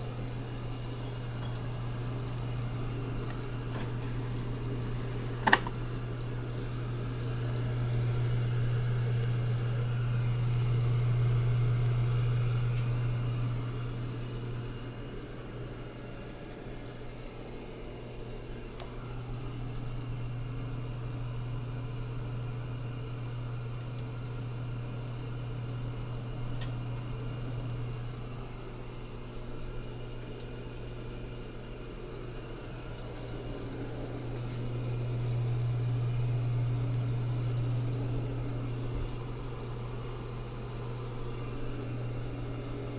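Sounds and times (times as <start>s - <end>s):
washing machine humming: 0.0s - 42.9s.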